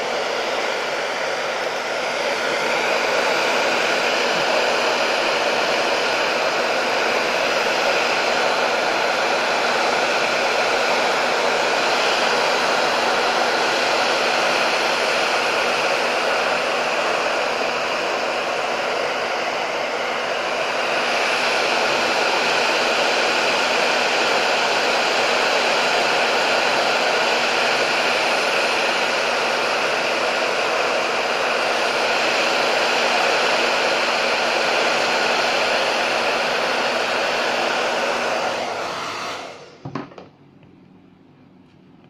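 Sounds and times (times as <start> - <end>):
hot-air blower running: 0.0 - 41.9.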